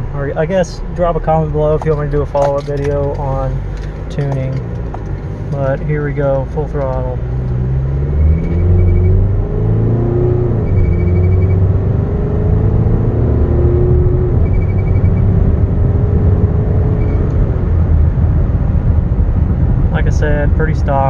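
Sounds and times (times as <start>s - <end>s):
diesel engine at full throttle: 0.0s - 21.0s.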